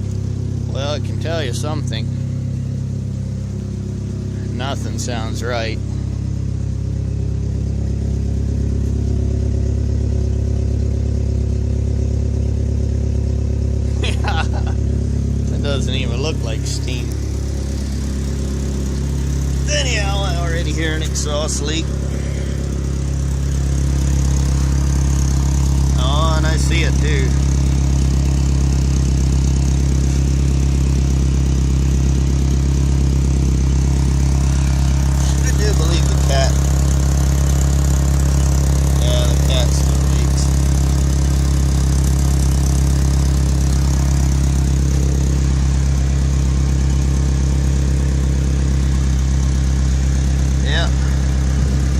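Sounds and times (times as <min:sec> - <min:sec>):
exhaust leak puffing: 0:00.0 - 0:14.1, 0:14.7 - 0:51.9
truck engine running: 0:00.0 - 0:51.9.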